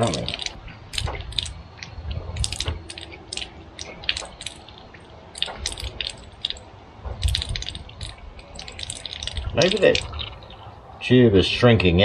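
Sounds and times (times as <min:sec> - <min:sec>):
clatter of small hard parts: 0:00.0 - 0:10.3.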